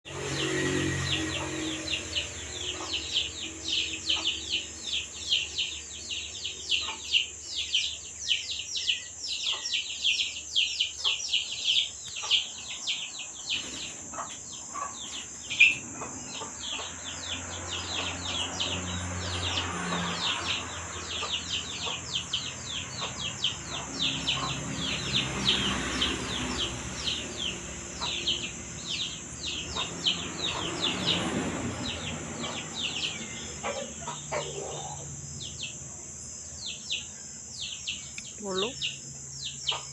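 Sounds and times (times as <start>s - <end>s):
birds chirping: 0.1s - 39.9s.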